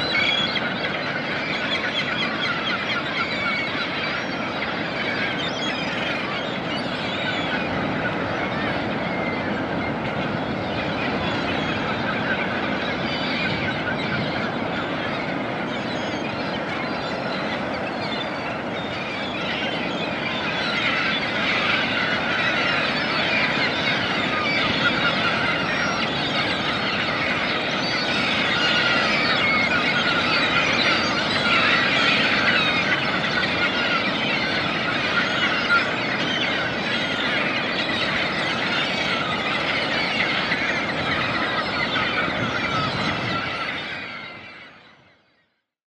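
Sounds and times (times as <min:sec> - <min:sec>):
seabirds calling: 0:00.0 - 0:45.4.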